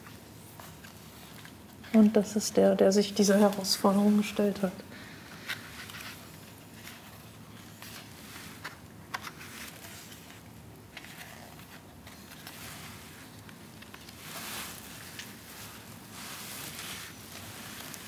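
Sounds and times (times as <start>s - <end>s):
book pages turning: 0.0s - 2.2s, 5.3s - 18.0s.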